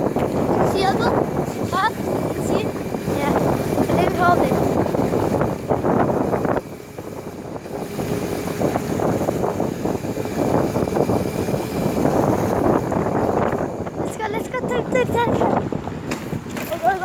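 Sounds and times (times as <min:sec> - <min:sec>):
electric motor hum: 0:00.0 - 0:17.0
wind buffeting microphone: 0:00.0 - 0:17.0.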